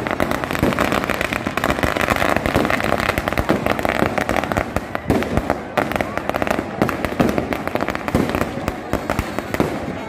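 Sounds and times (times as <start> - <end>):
firecrackers crackling and popping: 0.0 - 10.0.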